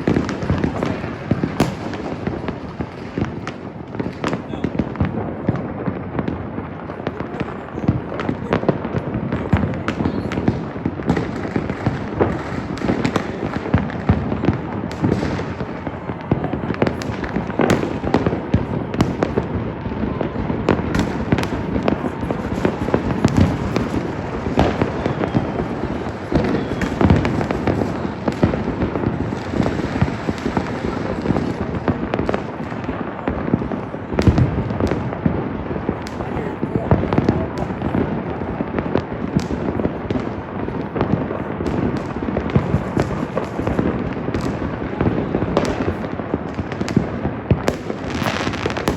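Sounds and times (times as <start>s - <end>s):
fireworks crackling and banging: 0.0s - 48.9s.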